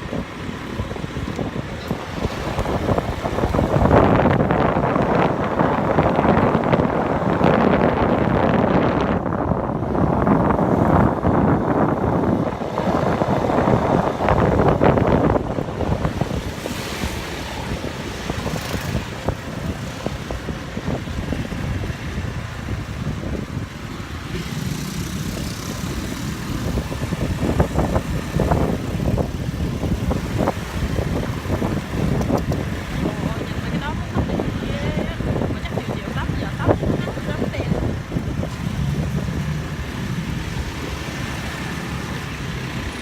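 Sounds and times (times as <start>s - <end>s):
motorbike engine hum: 0.0s - 43.0s
road traffic: 0.0s - 43.0s
wind buffeting microphone: 0.0s - 43.0s.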